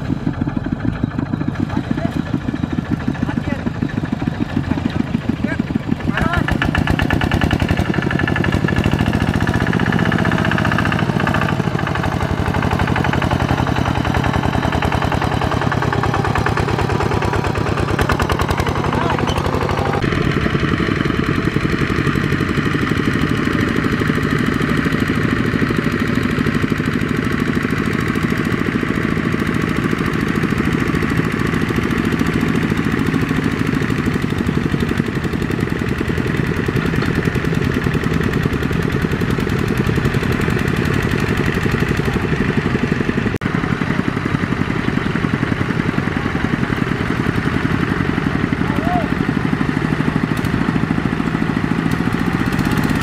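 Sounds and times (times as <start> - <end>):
diesel tractor engine chugging: 0.0 - 53.0.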